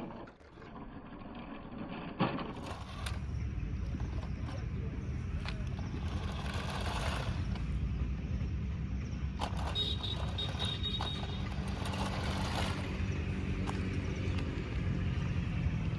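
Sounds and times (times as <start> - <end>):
toy car motor whirring: 0.0 - 7.9, 9.2 - 14.9
steady low hum: 0.0 - 15.9.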